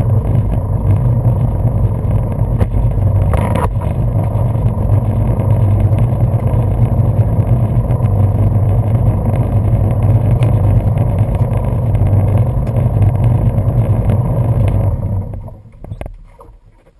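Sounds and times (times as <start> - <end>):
jet boat engines running: 0.0 - 16.7
water rushing against hull: 0.0 - 16.9.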